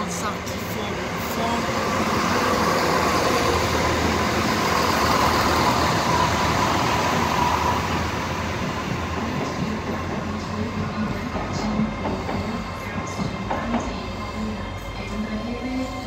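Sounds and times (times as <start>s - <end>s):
diesel train rumbling past: 0.0s - 16.0s
train whine: 0.0s - 16.0s.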